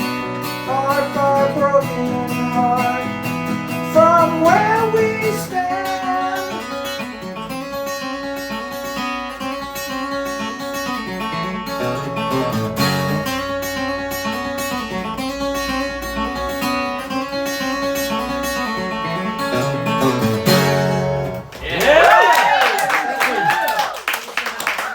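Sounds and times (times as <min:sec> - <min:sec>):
strummed acoustic guitar music: 0:00.0 - 0:21.5.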